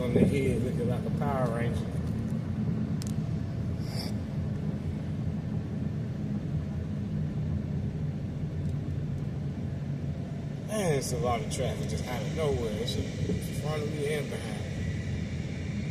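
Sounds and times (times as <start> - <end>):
car engine and road noise: 0.0 - 15.9.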